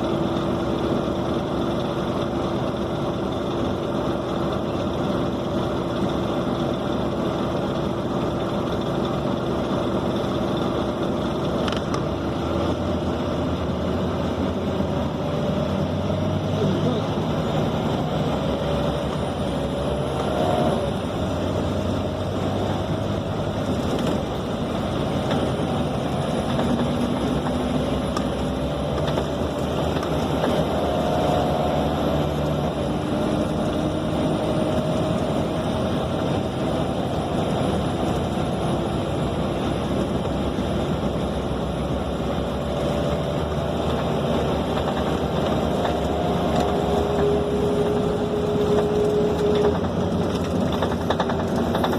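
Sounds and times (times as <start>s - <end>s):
bus diesel engine roar: 0.0s - 51.9s
road noise: 0.0s - 51.9s
rising and falling whine: 6.7s - 51.9s.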